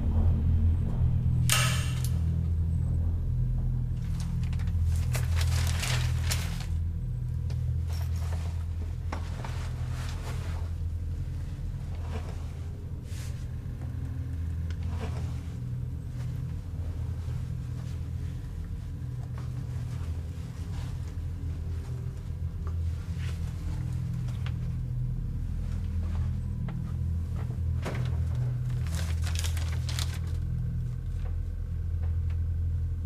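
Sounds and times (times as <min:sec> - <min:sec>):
low rumbling drone: 0:00.0 - 0:33.0.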